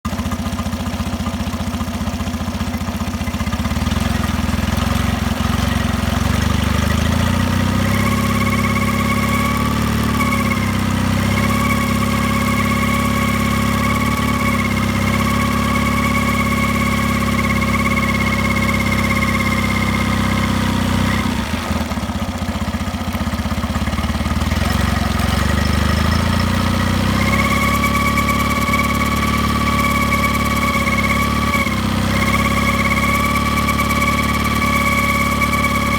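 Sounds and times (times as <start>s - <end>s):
outboard motor running: 0.1s - 35.9s.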